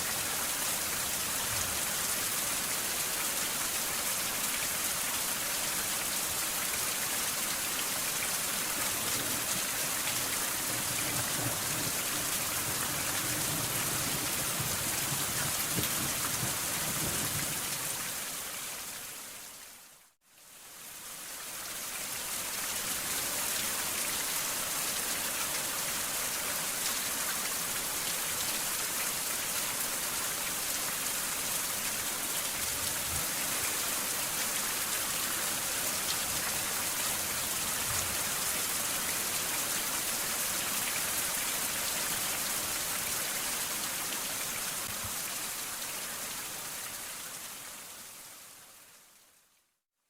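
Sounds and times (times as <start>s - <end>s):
steady rain falling: 0.0s - 49.8s.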